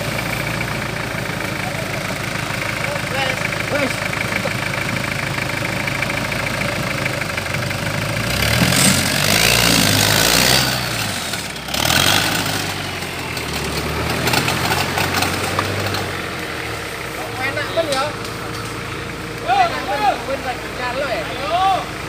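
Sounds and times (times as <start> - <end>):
buggy engine idling and revving: 0.0 - 22.0.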